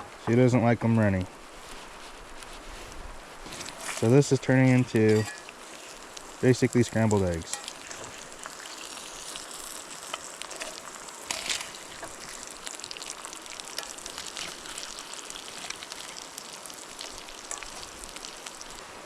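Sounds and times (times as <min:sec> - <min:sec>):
eggs sizzling in a pan: 0:01.1 - 0:19.0.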